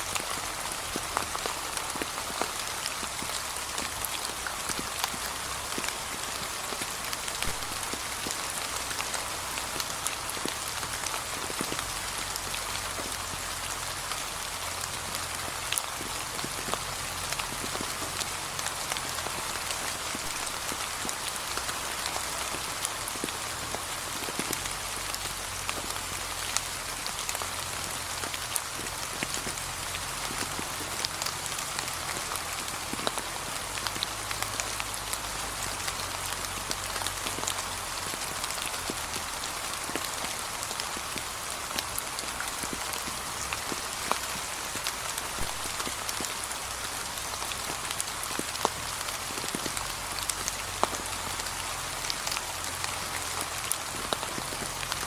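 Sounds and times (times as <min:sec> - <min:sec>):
rain on fallen leaves: 0:00.0 - 0:55.0.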